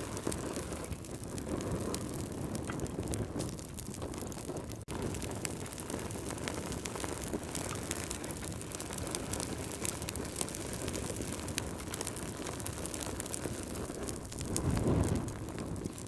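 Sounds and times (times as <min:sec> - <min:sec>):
fire crackling and popping: 0:00.0 - 0:16.0
low fire rumble: 0:00.0 - 0:16.0.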